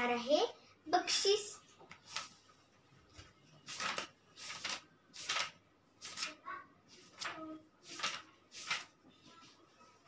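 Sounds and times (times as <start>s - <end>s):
paper pages rustling: 1.8s - 10.0s.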